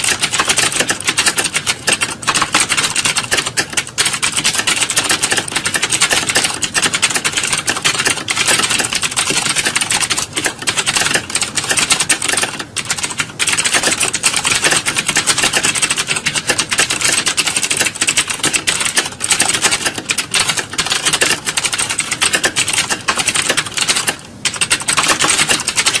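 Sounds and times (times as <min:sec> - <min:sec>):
fast typing on a keyboard: 0:00.0 - 0:26.0.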